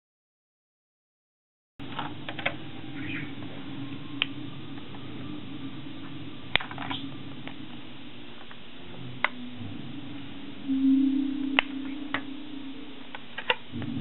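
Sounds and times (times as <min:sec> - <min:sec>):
steady low hum: 0:01.8 - 0:14.0.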